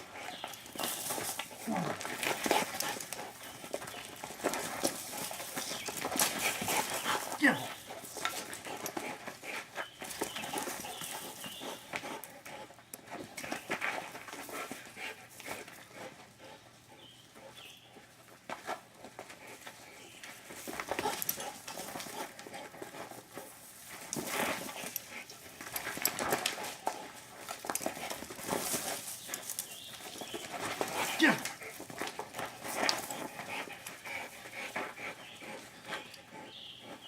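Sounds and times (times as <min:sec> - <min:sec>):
dog scuffling: 0:00.0 - 0:16.6, 0:17.4 - 0:37.0
dog panting: 0:00.0 - 0:37.0.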